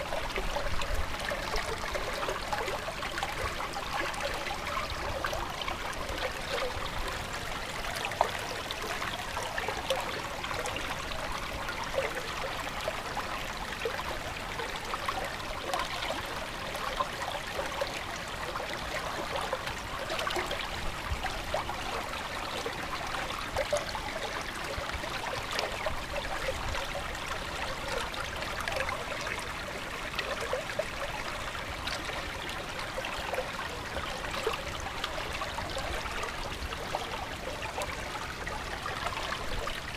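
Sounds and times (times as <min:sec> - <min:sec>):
stream water running and trickling: 0:00.0 - 0:39.9
water splashes and gurgles: 0:00.0 - 0:39.9.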